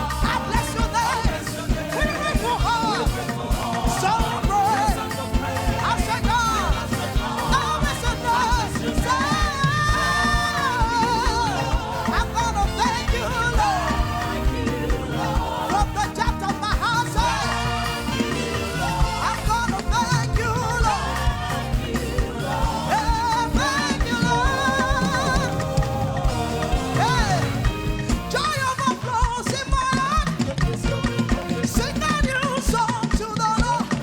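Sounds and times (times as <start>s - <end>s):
gospel band music: 0.0s - 34.0s
singing: 0.0s - 34.0s.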